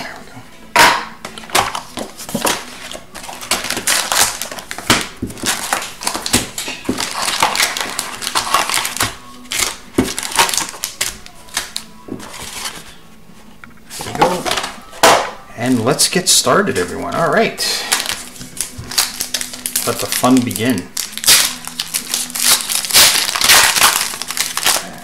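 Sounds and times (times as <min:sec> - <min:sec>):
card packs crinkling and rustling: 0:00.8 - 0:13.0, 0:13.8 - 0:25.0.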